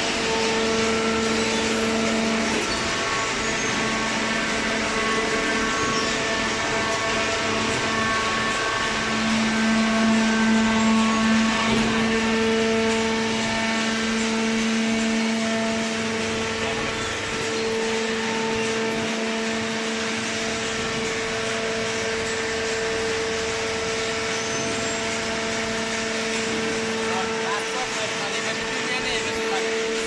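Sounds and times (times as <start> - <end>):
hydraulic power unit humming: 0.0 - 30.0.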